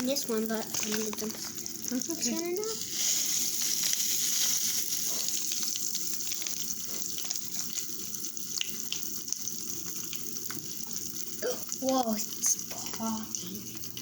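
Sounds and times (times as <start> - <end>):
candy crackling and fizzing in liquid: 0.0 - 14.0.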